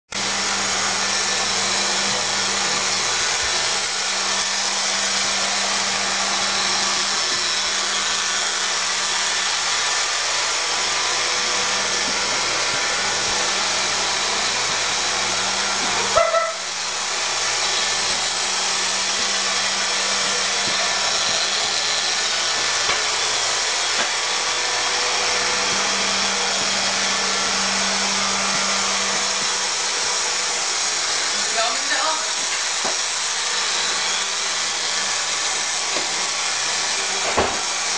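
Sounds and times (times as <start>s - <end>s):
robot vacuum motor whirring: 0.2s - 37.9s.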